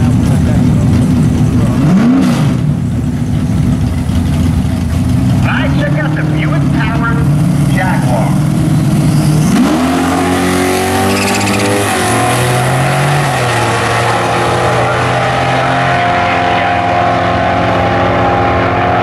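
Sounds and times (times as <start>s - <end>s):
drag racing cars revving: 0.0s - 19.0s.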